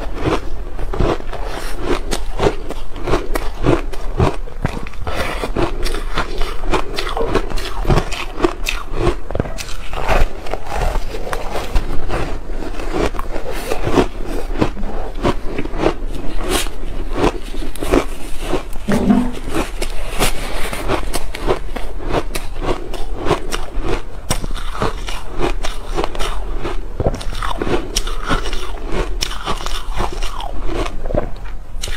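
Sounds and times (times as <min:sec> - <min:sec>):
person chewing crunchy ice: 0:00.0 - 0:18.9, 0:19.5 - 0:31.9.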